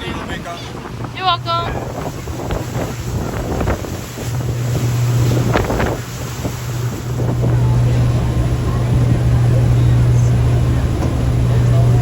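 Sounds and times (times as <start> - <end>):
ferry engines droning: 0.0 - 12.0
wind buffeting microphone: 0.0 - 12.0.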